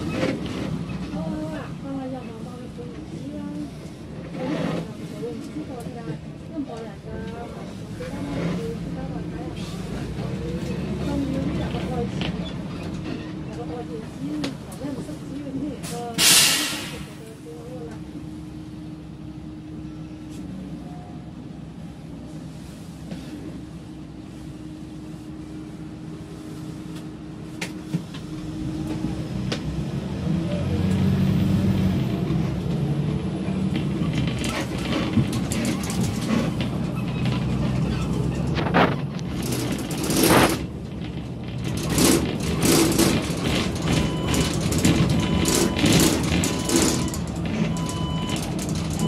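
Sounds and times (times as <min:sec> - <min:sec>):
road noise: 0:00.0 - 0:49.0
vehicle engine: 0:00.0 - 0:49.0.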